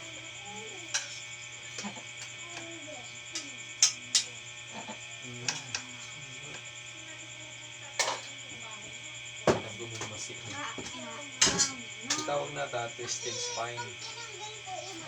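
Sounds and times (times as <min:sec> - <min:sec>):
faint low voices: 0:00.0 - 0:15.0
steady hum: 0:00.0 - 0:15.0.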